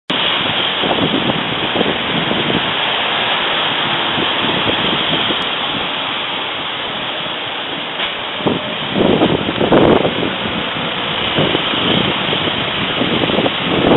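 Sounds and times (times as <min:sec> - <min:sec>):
road traffic roar: 0:00.1 - 0:13.9.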